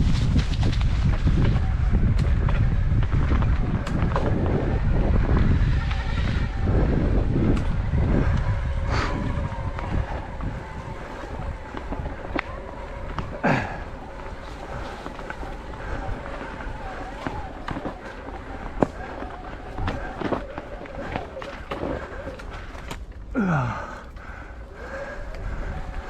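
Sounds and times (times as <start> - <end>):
bike rumbling and rattling: 0.0 - 26.0
wind buffeting the microphone: 0.0 - 26.0.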